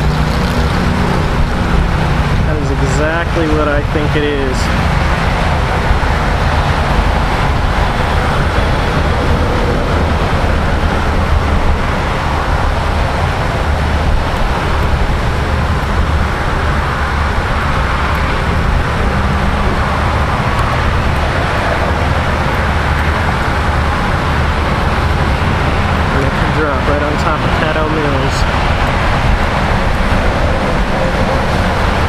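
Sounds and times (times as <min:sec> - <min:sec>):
heavy low rumble: 0:00.0 - 0:32.0
highway traffic rushing: 0:00.0 - 0:32.0.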